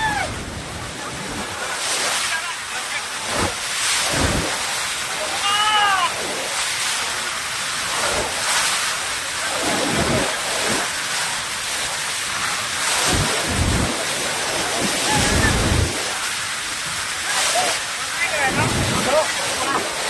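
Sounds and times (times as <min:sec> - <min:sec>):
rushing floodwater: 0:00.0 - 0:20.0.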